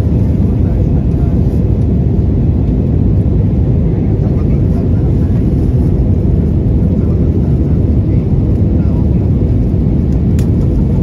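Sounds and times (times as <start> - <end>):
jet engine roar in cabin: 0.0 - 11.0.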